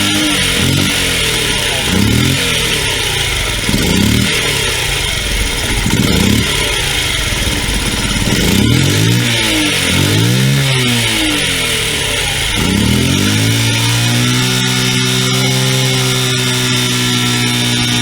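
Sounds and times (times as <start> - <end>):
small motorcycle engine revving: 0.0 - 18.0.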